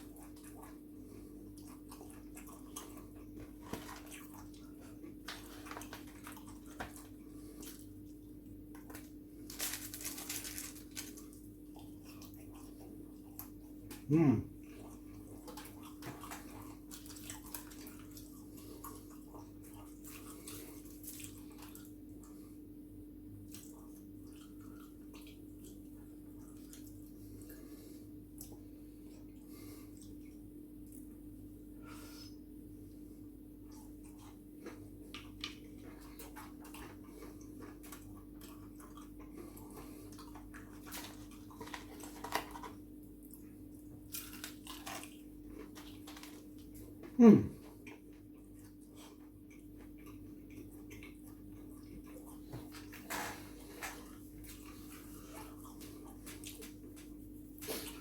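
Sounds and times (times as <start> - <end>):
low electrical hum: 0.0 - 58.0
person chewing food: 0.0 - 58.0.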